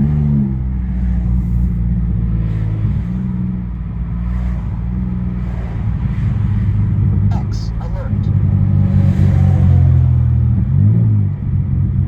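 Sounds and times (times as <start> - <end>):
car engine droning under load: 0.0 - 12.0.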